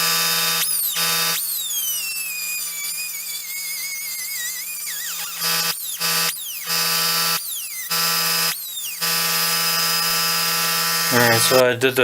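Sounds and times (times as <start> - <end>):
motor hum: 0.0 - 12.0
power tool grinding steel: 0.0 - 12.0.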